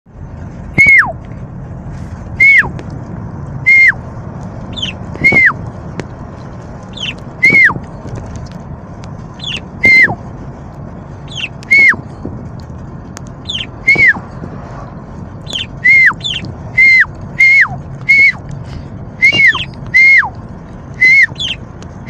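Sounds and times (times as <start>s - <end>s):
car cabin low rumble: 0.1s - 22.0s.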